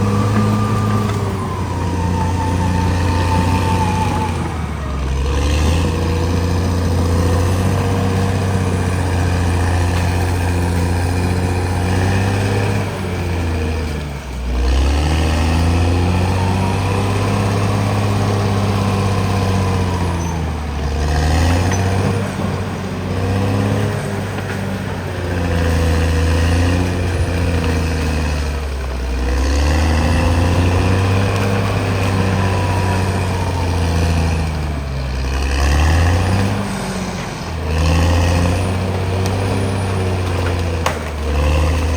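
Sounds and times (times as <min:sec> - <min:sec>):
bulldozer diesel engine working: 0:00.0 - 0:41.9.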